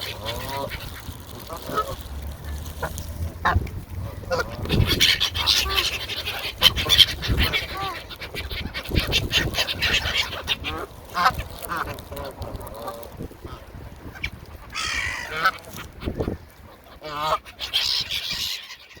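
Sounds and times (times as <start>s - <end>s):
geese honking: 0.0s - 19.0s
gulls calling: 0.0s - 19.0s.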